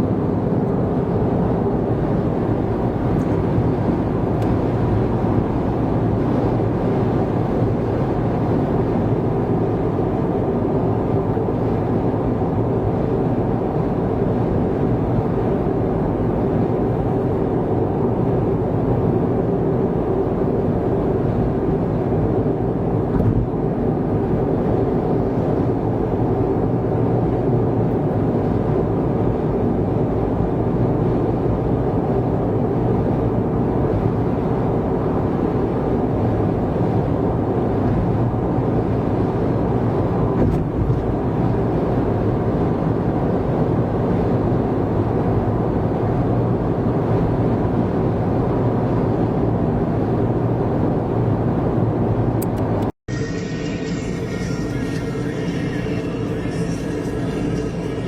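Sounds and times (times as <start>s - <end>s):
car road noise: 0.0s - 58.0s.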